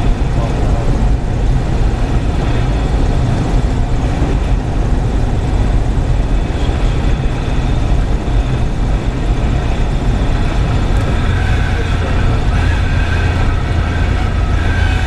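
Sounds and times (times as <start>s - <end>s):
propeller plane engine running: 0.0s - 15.0s.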